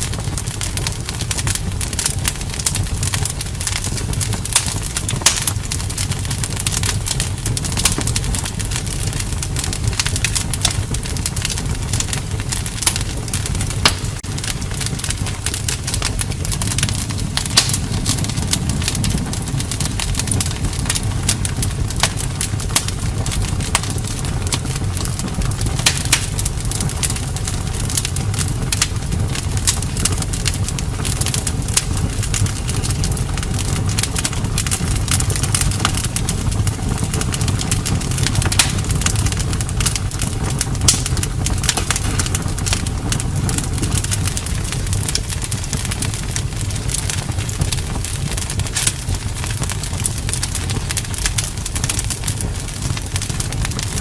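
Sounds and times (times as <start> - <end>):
campfire crackling and popping: 0.0 - 54.0
steady low rumble: 0.0 - 54.0.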